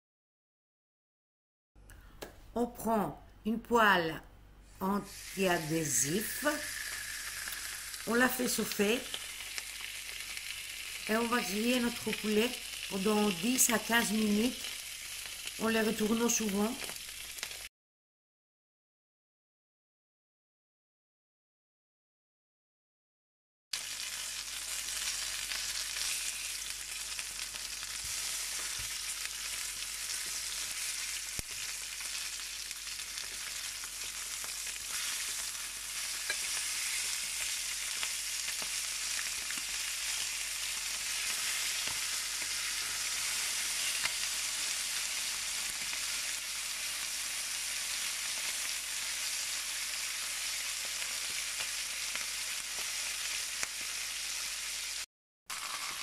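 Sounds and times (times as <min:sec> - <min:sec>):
chicken sizzling in a pan: 0:05.1 - 0:17.7, 0:23.8 - 0:56.0.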